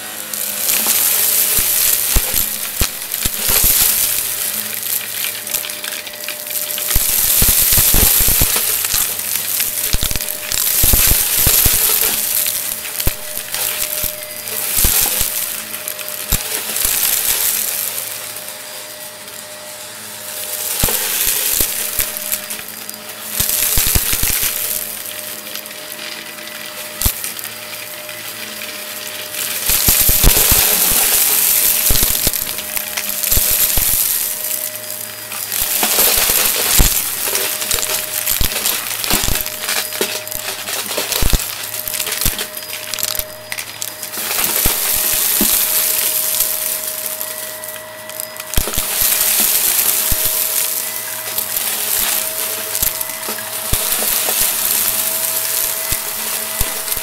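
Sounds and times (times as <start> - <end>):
debris clicking inside vacuum: 0.0 - 19.2, 20.2 - 57.0
debris crackling in vacuum: 0.0 - 57.0
vacuum motor whine: 0.0 - 57.0.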